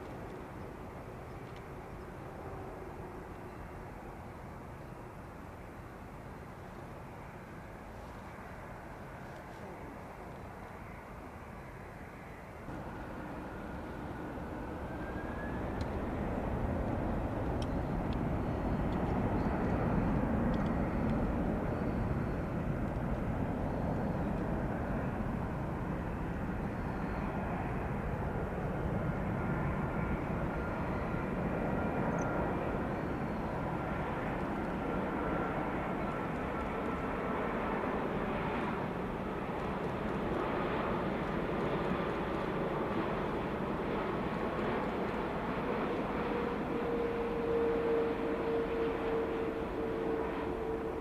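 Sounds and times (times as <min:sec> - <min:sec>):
jet engines roaring: 0:00.0 - 0:51.0
thin steady whine: 0:00.0 - 0:51.0.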